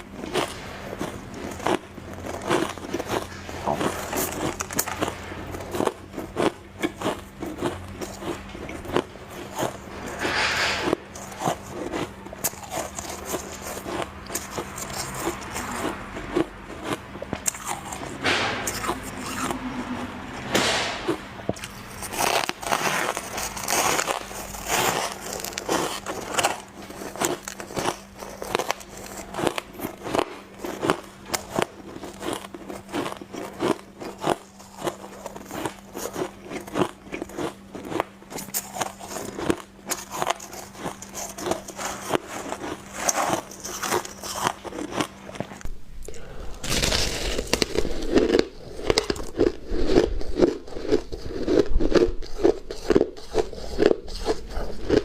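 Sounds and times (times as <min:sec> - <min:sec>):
ice crunching in mouth: 0:00.2 - 0:09.9, 0:10.9 - 0:19.9, 0:21.1 - 0:55.0.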